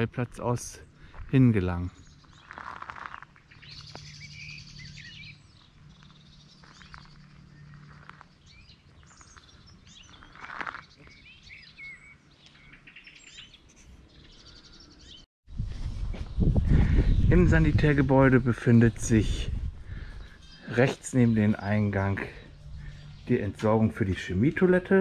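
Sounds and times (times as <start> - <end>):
small birds chirping: 0.4 - 15.3, 16.2 - 25.0.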